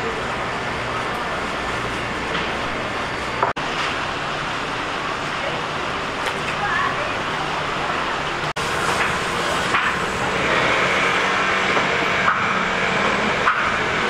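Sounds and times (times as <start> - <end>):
market crowd din: 0.0 - 4.0, 4.9 - 14.0.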